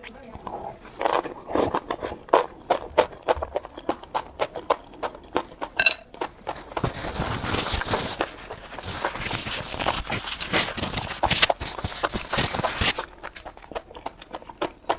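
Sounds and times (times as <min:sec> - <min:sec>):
mouth chewing smacks and clicks: 0:00.0 - 0:14.9.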